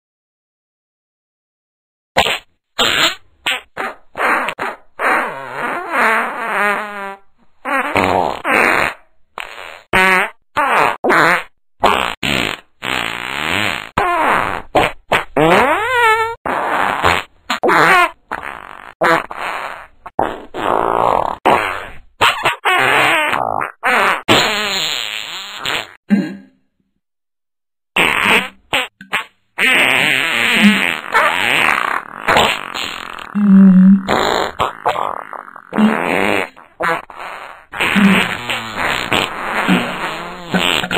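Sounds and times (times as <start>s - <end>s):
fart noises: 2.2s - 26.5s, 28.0s - 40.9s.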